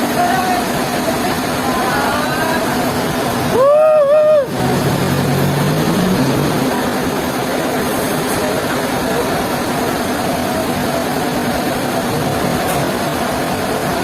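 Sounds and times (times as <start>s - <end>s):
heavy machinery running: 0.0s - 14.0s.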